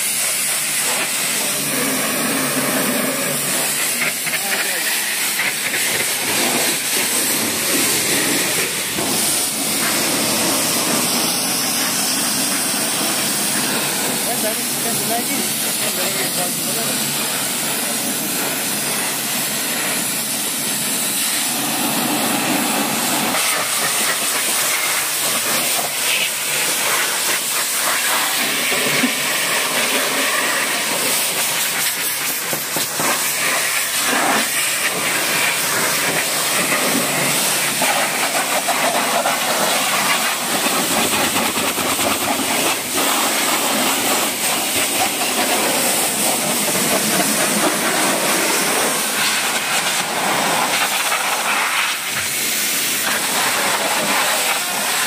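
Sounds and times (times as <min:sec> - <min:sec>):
pressure washer jet hissing: 0:00.0 - 0:55.0.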